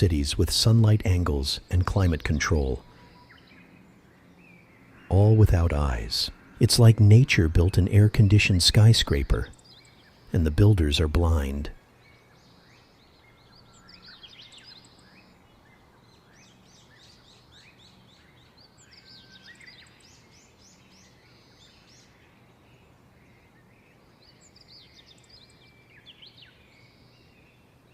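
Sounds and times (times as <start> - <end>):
low steady background hum: 0.0 - 27.9
small birds chirping: 0.0 - 27.9.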